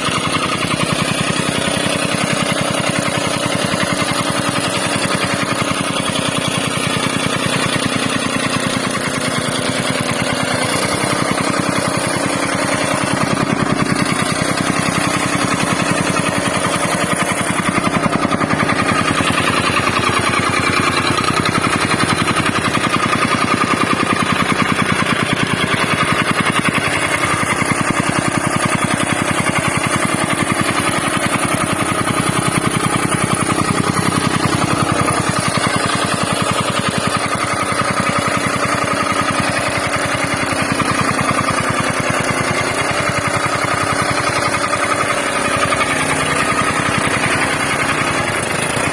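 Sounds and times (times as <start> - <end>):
soil compactor pounding: 0.0 - 48.9.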